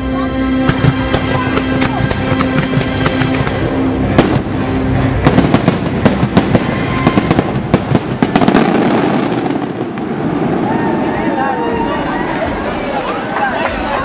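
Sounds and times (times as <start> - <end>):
fireworks bangs and crackles: 0.6 - 13.2.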